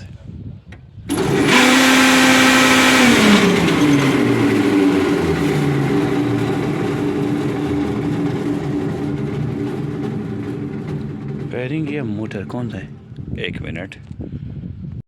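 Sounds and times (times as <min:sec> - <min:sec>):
blower motor running and coasting down: 0:01.1 - 0:13.6.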